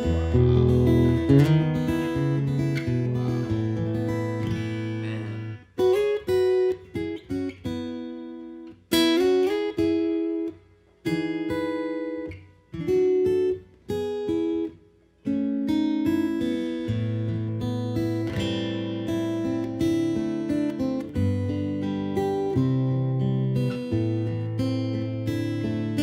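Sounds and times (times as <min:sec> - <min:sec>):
acoustic guitar playing: 0:00.0 - 0:26.0.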